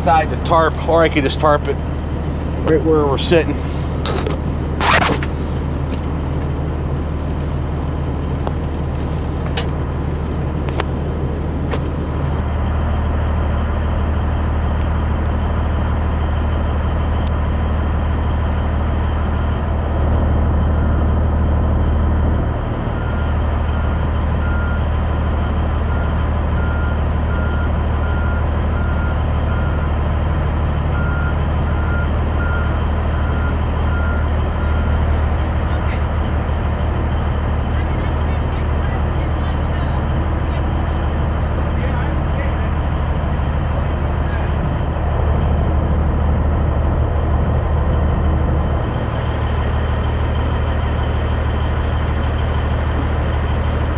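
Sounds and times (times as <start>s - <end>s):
diesel truck engine idling: 0.0s - 53.9s.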